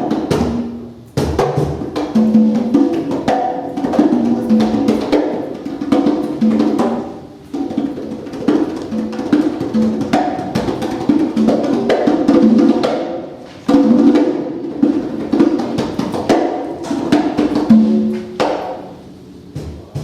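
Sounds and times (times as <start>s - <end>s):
congas played by hand: 0.0s - 20.0s.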